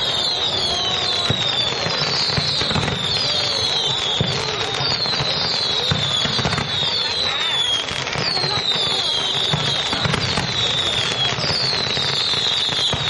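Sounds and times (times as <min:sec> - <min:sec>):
firework whistles falling in pitch: 0:00.0 - 0:13.0
fireworks crackling and popping: 0:00.0 - 0:13.0.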